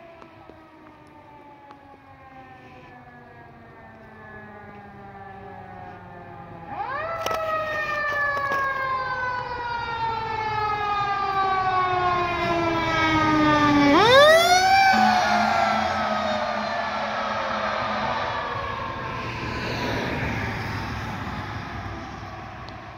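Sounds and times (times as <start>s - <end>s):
fire engine mechanical siren wailing: 0.0s - 22.9s.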